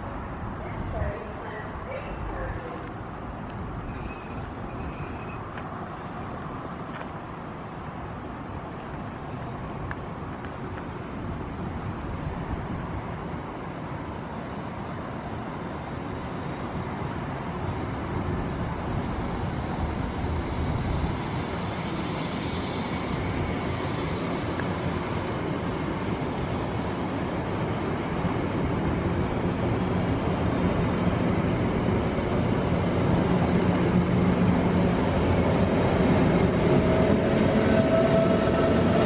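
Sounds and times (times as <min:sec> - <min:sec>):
train rumbling: 0:00.0 - 0:39.0.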